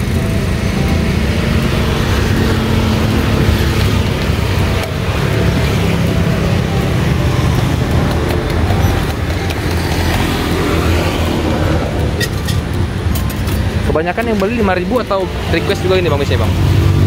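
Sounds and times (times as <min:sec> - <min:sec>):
road traffic engine rumble: 0:00.0 - 0:17.0.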